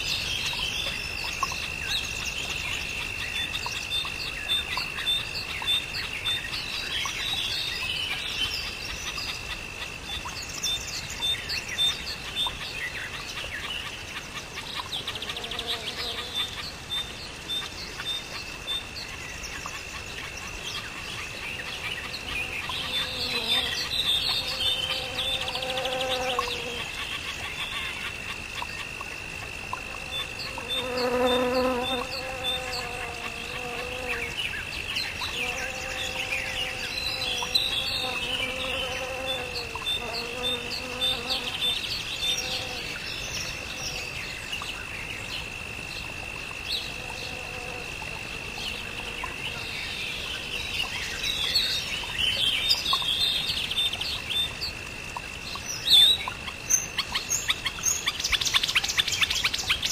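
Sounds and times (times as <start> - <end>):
birds chirping: 0.0 - 54.8
high insect drone: 0.0 - 59.9.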